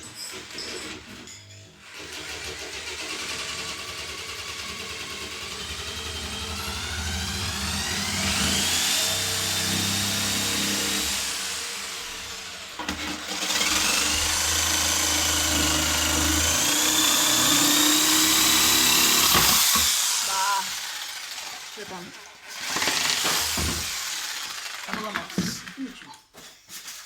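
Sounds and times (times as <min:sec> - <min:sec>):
power tool motor whining: 0:01.8 - 0:25.8.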